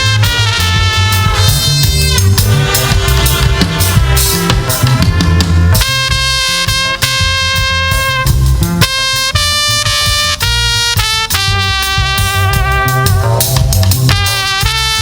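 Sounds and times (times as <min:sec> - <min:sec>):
bass guitar: 0:00.0 - 0:15.0
brass lead holding long notes: 0:00.0 - 0:15.0
drums: 0:00.0 - 0:15.0.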